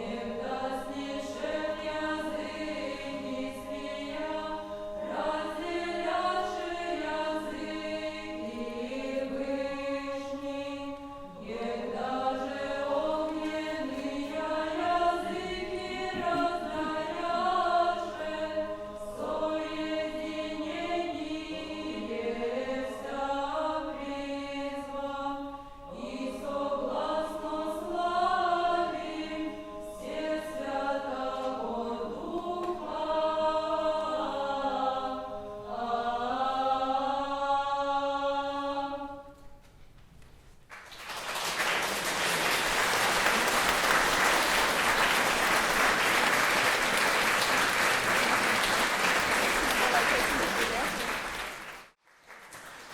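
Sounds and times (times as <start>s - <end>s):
choir chanting: 0.0s - 39.4s, 41.3s - 51.9s.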